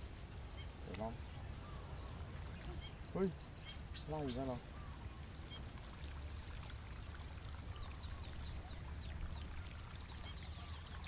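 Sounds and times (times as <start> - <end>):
faint water trickle: 0.0 - 11.0.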